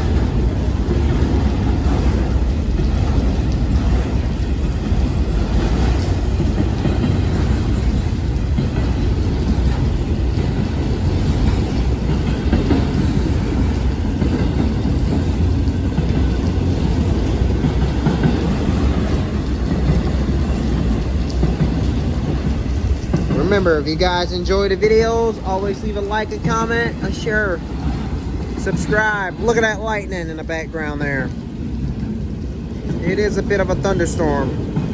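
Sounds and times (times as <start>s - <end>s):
freight train wheels rumbling: 0.0s - 34.9s.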